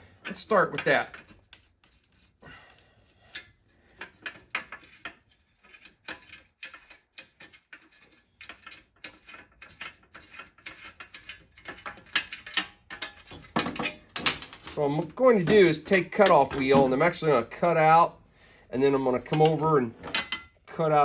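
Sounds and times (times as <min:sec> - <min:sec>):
hand tools clicking and knocking: 0:00.2 - 0:02.1, 0:02.7 - 0:17.3, 0:19.2 - 0:20.6.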